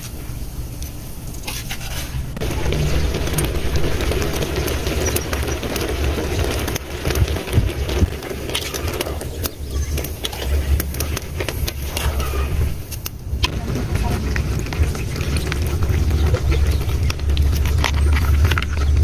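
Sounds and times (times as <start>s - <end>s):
steady low rumble: 2.1s - 19.0s.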